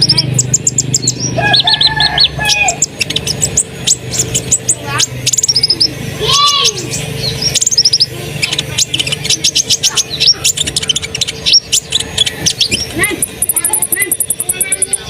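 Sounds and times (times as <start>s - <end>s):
bird chirping and trilling: 0.0s - 15.0s
steady low hum: 0.0s - 15.0s.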